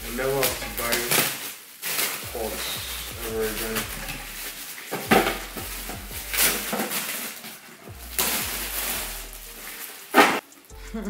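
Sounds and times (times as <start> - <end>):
wrapping paper rustling and tearing: 0.0 - 10.7.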